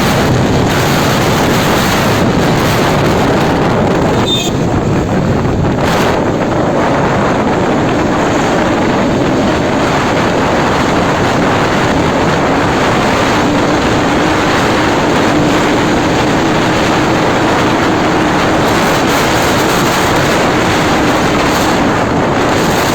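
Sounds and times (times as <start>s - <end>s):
motorcycle engine running: 0.0s - 22.9s
wind on microphone: 0.0s - 22.9s.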